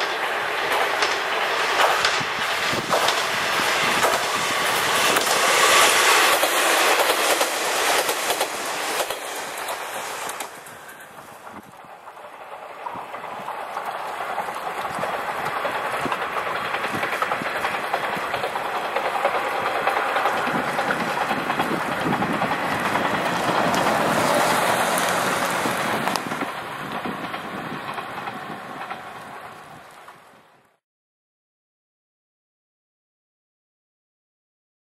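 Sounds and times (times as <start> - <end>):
diesel railcar engines passing: 0.0 - 30.8
wheels clicking over rail joints: 0.0 - 30.8.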